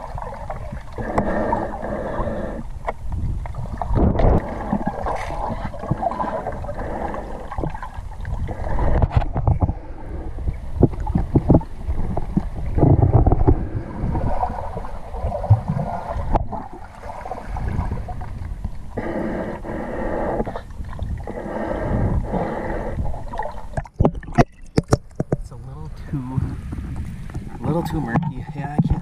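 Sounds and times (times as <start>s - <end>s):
gurgling water: 0.0s - 29.0s
muffled underwater water rushing: 0.0s - 29.0s.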